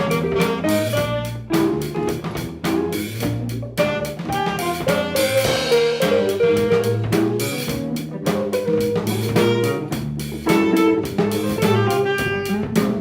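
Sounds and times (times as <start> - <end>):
drum kit steady beat: 0.0 - 13.0
instrumental band playing live: 0.0 - 13.0.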